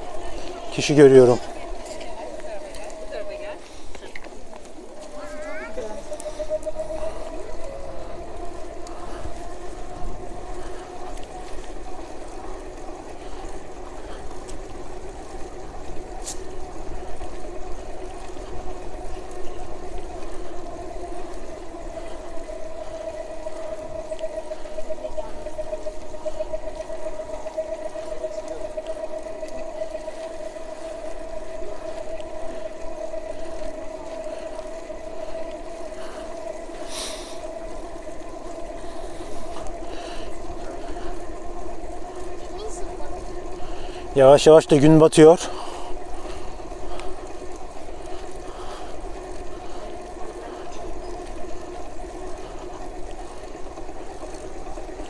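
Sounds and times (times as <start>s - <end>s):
electric bike motor whining: 0.0s - 55.0s.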